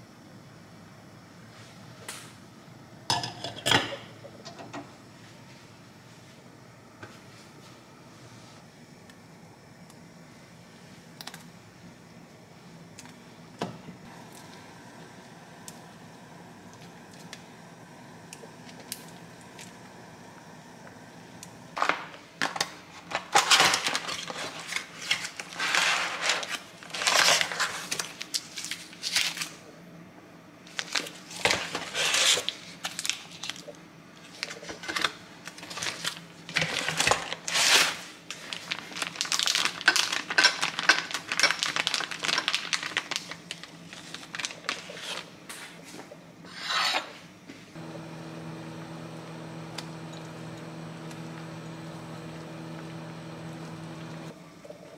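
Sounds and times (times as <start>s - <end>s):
appliance hum: 0.0s - 54.9s.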